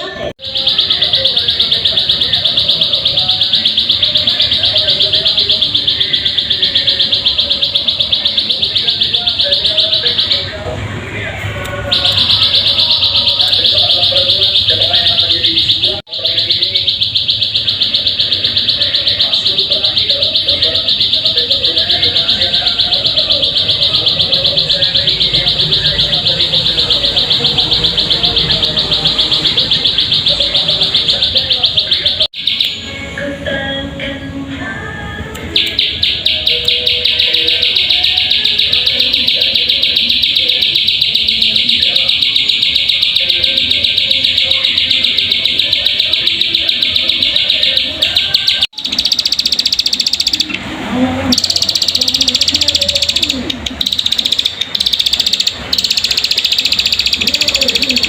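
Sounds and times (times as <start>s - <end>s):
bird fast high trill: 0.4s - 10.6s, 11.9s - 32.9s, 35.6s - 50.6s, 51.2s - 58.0s.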